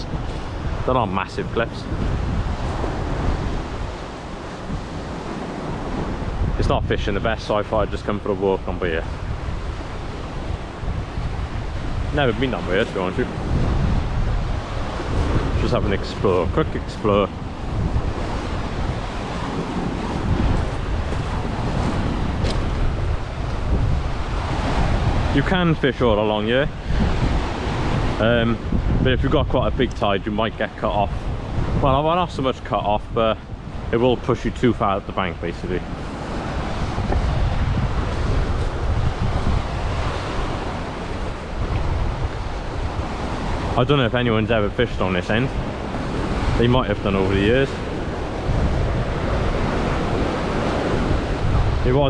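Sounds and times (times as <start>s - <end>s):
sea washing on shore: 0.0s - 52.0s
wind buffeting microphone: 0.0s - 52.0s.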